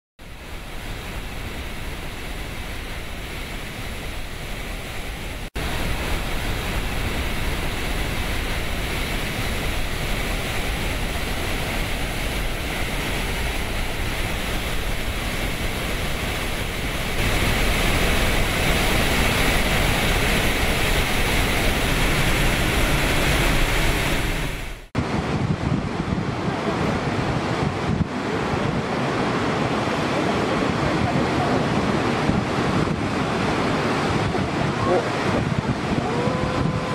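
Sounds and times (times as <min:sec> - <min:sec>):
water rushing from dam spillways: 0:00.2 - 0:36.9.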